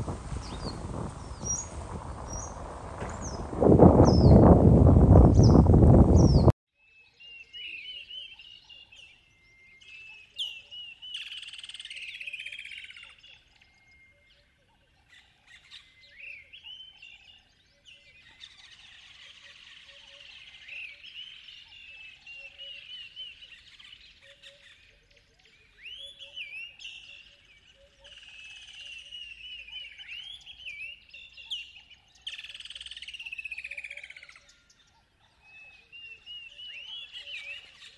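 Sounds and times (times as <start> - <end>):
songbirds singing and chirping: 0.0 - 37.9.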